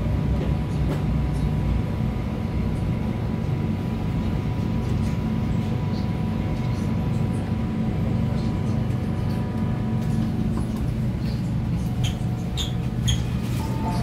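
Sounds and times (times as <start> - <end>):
low hum inside train carriage: 0.0 - 14.0.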